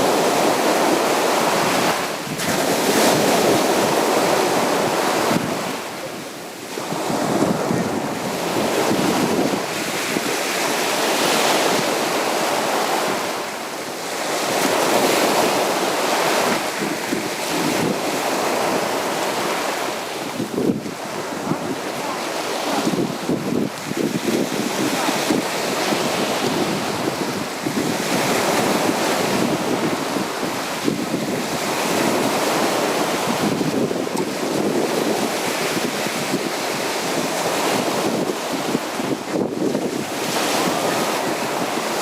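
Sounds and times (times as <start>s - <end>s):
sea waves breaking on beach: 0.0s - 42.0s.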